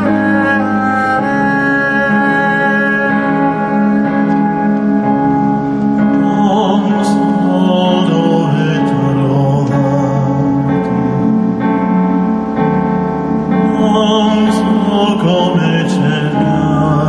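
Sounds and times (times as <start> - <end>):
man singing with vibrato: 0.0 - 4.2, 5.3 - 12.2, 13.5 - 17.0
strings and piano ballad: 0.0 - 17.0.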